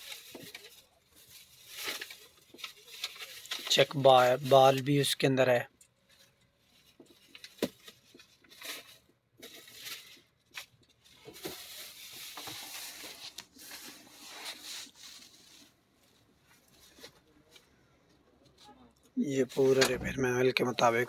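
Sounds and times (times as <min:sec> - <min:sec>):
rustling and scraping handling: 0:00.0 - 0:21.0.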